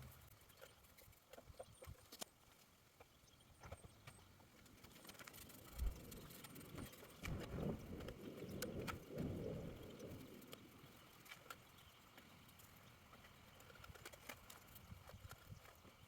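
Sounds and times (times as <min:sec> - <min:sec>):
faint clicks and knocks: 0:00.1 - 0:16.0.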